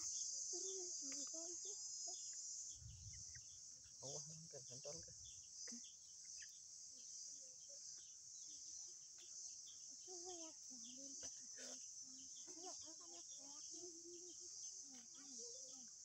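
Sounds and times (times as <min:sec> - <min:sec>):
bird chirps: 0:00.0 - 0:16.0
insects chirring: 0:00.0 - 0:16.0.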